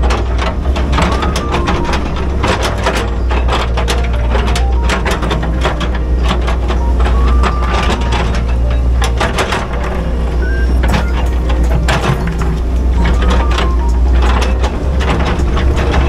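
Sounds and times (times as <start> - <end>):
bucket clanking and scraping: 0.0 - 16.0
excavator diesel engine running: 0.0 - 16.0.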